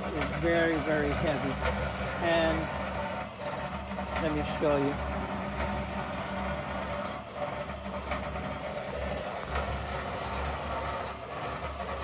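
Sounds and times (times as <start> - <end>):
washer motor hum: 0.0 - 12.0.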